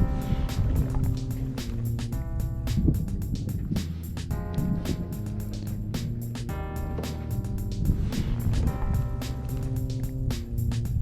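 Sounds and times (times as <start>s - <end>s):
music with drum beat and chords: 0.0s - 11.0s.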